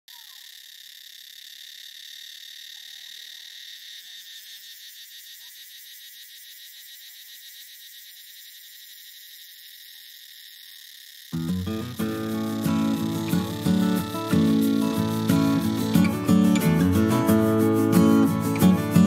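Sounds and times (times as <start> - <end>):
high-pitched insect chorus: 0.1 - 19.0.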